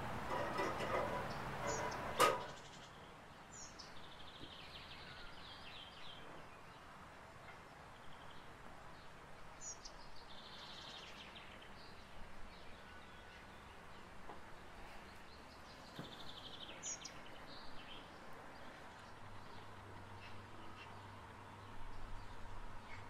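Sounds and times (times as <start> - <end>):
birds singing faintly: 0.0 - 23.0.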